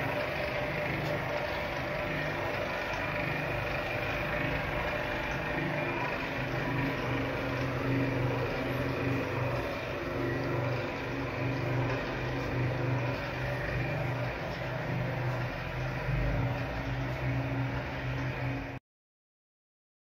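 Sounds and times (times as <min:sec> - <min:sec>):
mechanical whir: 0:00.0 - 0:18.8
vacuum pump motor humming: 0:00.0 - 0:18.8.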